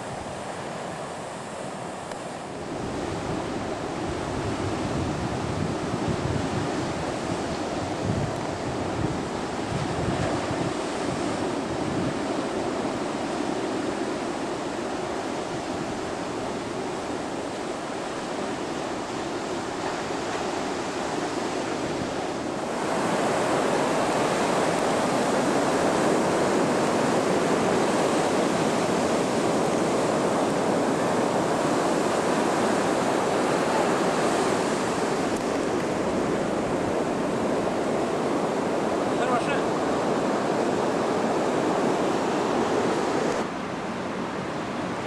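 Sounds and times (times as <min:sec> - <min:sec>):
ocean surf breaking on beach: 0:00.0 - 0:45.0.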